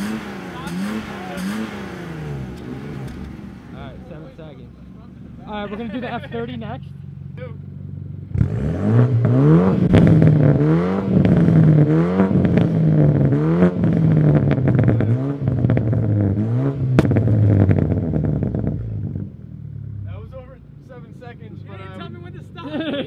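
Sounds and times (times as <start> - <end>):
exhaust cracks: 0.0 - 5.6, 6.4 - 21.4
car engine revving: 0.0 - 22.9.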